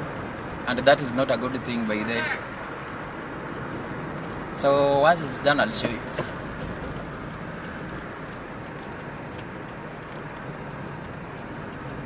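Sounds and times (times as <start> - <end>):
tyre and road noise in car: 0.0 - 12.0.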